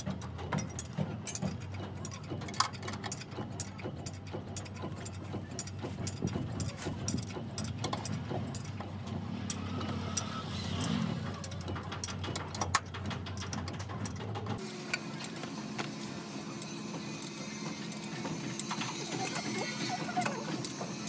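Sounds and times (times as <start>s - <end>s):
engine idling: 0.0s - 21.0s
sharp clicks and knocks: 0.0s - 21.0s.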